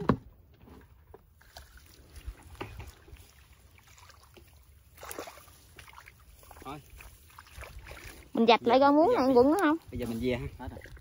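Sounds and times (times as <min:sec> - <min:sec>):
splashing in shallow muddy water: 0:01.1 - 0:11.0.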